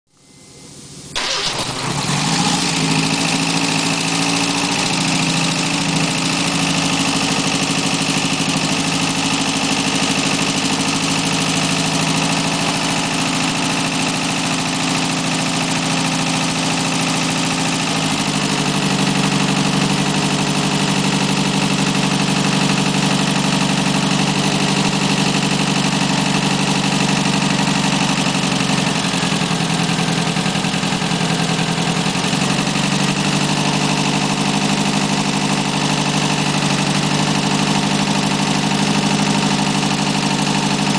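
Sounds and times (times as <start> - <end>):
car engine starting and idling: 0.2 - 40.9.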